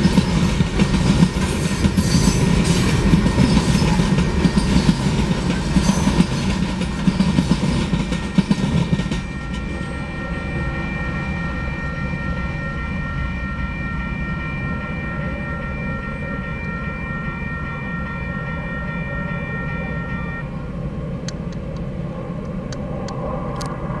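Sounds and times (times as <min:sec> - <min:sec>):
crossing bell ringing: 0:00.0 - 0:20.8
freight train rumble: 0:00.0 - 0:24.0.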